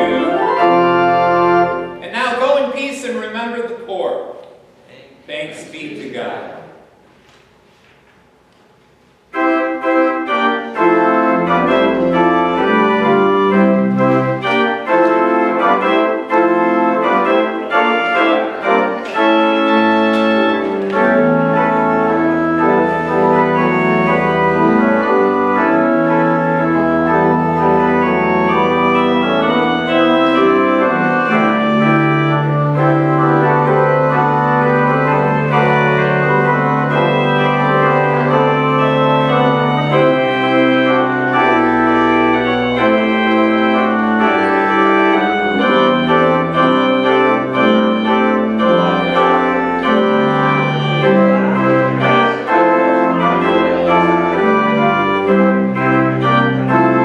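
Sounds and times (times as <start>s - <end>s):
church organ chords: 0.0s - 4.4s, 8.2s - 57.0s.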